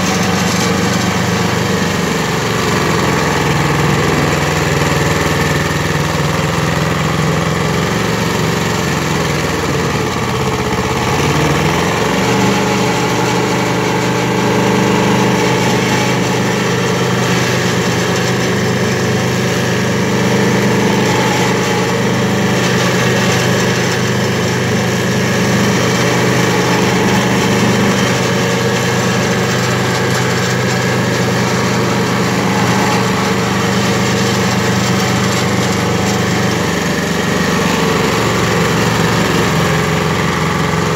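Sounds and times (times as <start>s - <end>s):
cutter wheel grinding stump: 0.0s - 40.9s
petrol engine running hard: 0.0s - 40.9s.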